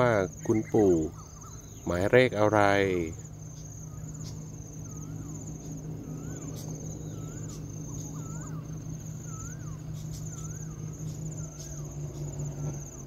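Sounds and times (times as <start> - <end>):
bird whistling calls: 0.0 - 2.0, 3.0 - 13.0
insects trilling: 0.0 - 13.0
low steady hum: 0.0 - 13.0.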